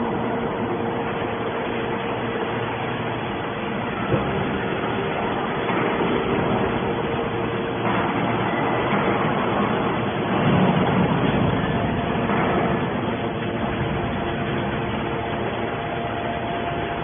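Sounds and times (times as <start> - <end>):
scrap metal baler humming: 0.0 - 17.0.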